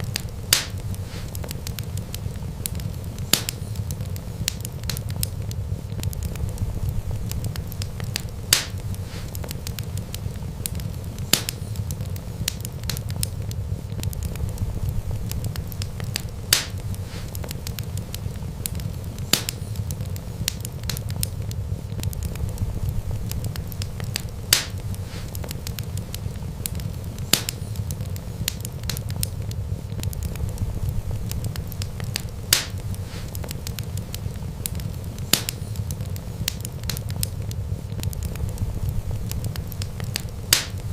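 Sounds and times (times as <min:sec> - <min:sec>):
fire rumbling: 0:00.0 - 0:40.9
wood crackling pops: 0:00.0 - 0:40.9.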